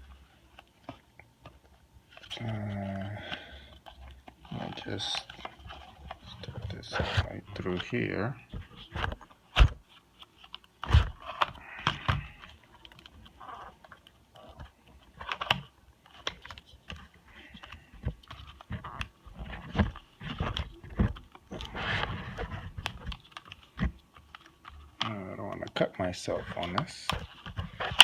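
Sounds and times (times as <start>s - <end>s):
plastic crinkling and cracking: 0.0s - 28.0s.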